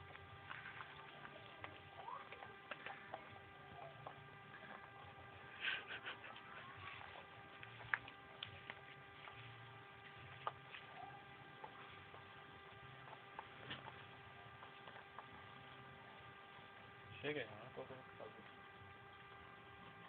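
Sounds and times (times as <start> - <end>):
pets chewing dry kibble: 0.0 - 20.0
steady electrical hum: 0.0 - 20.0.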